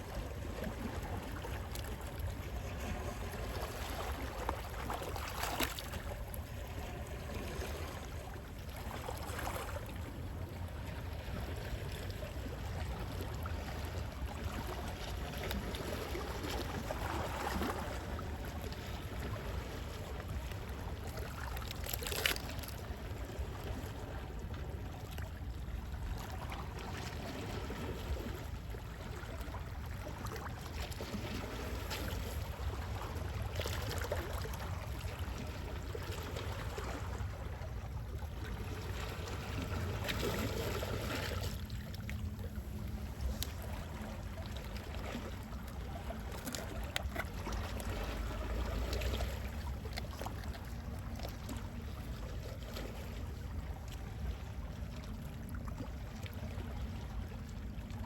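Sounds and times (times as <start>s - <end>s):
sea waves lapping: 0.0s - 58.0s
water splashes: 0.0s - 58.0s.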